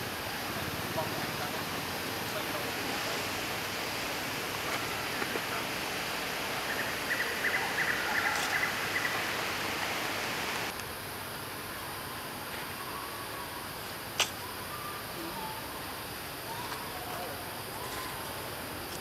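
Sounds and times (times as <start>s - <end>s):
forest background hiss: 0.0s - 19.0s.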